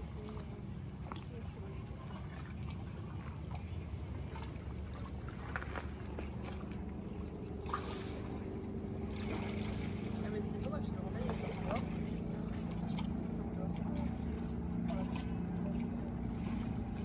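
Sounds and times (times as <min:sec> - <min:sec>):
boat engine humming: 0:00.0 - 0:17.0
rush of water: 0:00.0 - 0:17.0
water trickling and splashing: 0:00.0 - 0:17.0.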